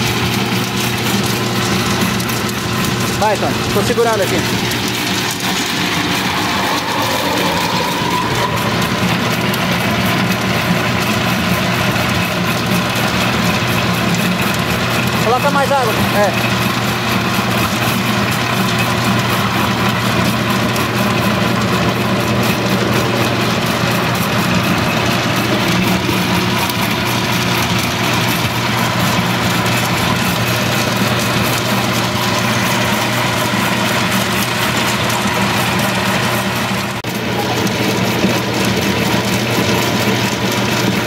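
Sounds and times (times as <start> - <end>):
pulping machine humming: 0.0 - 41.0.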